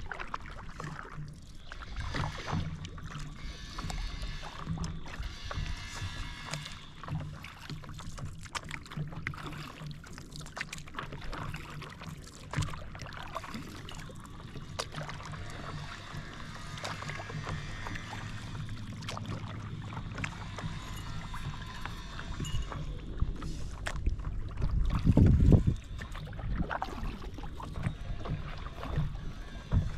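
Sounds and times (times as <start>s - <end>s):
wind rumble on microphone: 0.0s - 7.6s, 12.6s - 29.9s
water splashing against paddle board: 0.0s - 29.9s.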